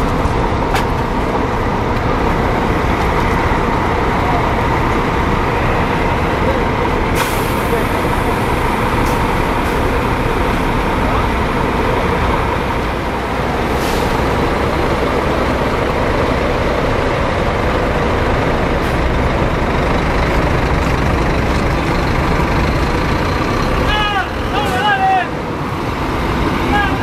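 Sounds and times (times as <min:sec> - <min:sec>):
diesel coach engine rumbling: 0:00.0 - 0:27.0.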